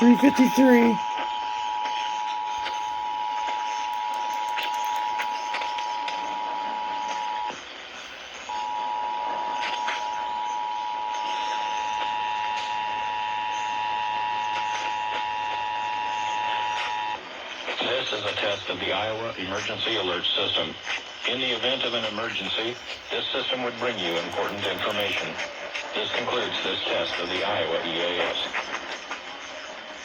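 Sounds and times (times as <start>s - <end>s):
radio hiss: 0.0s - 30.0s.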